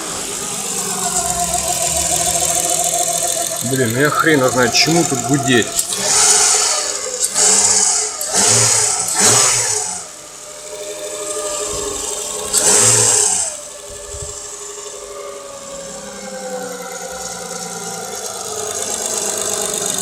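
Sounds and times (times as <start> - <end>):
engine idling: 0.0 - 20.0
engine revving: 0.0 - 20.0
timing belt hum: 0.0 - 20.0.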